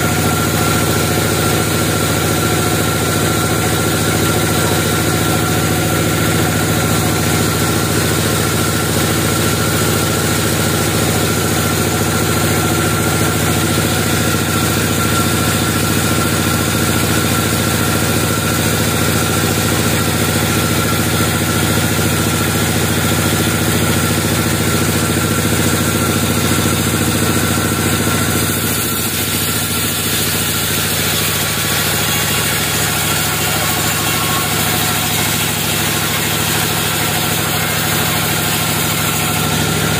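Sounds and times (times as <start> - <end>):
band sawmill engine drone: 0.0 - 39.9
saw blade cutting log: 0.0 - 39.9.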